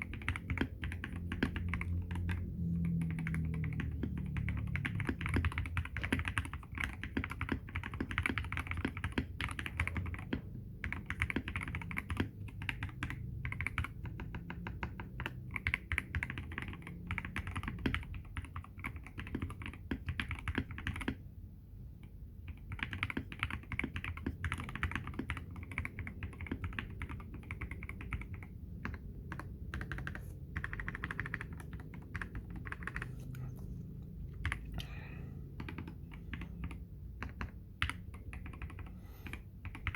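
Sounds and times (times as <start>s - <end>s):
fast mechanical keyboard typing: 0.0s - 21.4s, 22.0s - 33.4s, 34.3s - 34.8s, 35.5s - 39.9s.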